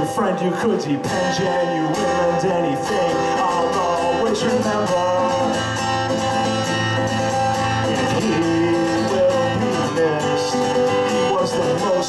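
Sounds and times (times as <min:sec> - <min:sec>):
acoustic guitar: 0:00.0 - 0:12.0
person singing: 0:00.0 - 0:12.0.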